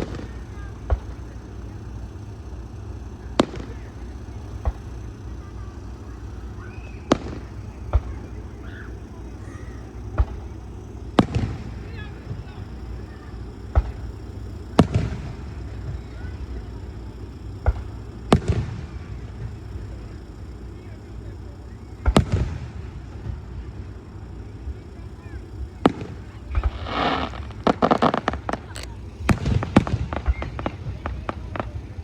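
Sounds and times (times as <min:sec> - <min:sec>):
fireworks booming: 0:00.0 - 0:32.0.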